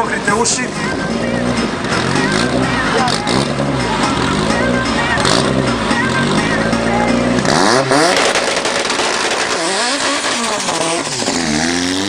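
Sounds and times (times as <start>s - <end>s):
car engines accelerating hard: 0.0s - 12.0s.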